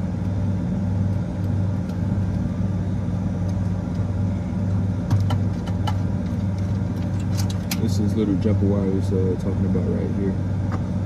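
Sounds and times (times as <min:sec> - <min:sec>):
refrigeration machinery humming: 0:00.0 - 0:11.0.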